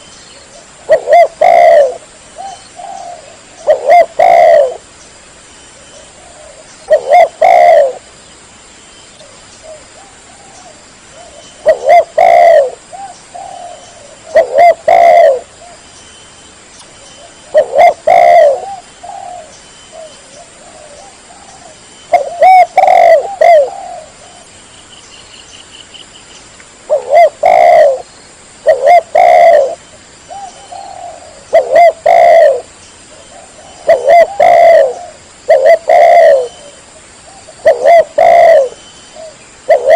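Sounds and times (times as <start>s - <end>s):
dove cooing: 0.0s - 4.9s, 5.8s - 8.1s, 9.2s - 15.8s, 17.2s - 24.5s, 26.8s - 39.9s.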